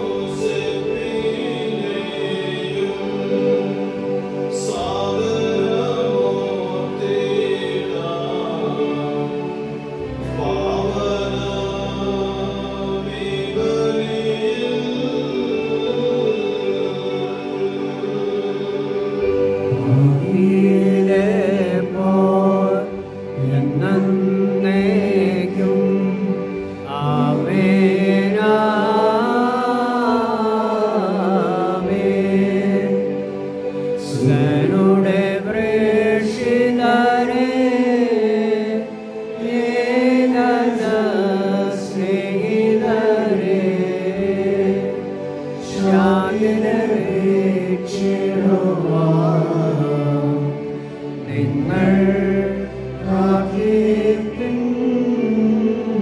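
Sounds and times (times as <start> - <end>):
held accompanying chords: 0.0 - 56.0
person chanting a hymn: 0.0 - 56.0.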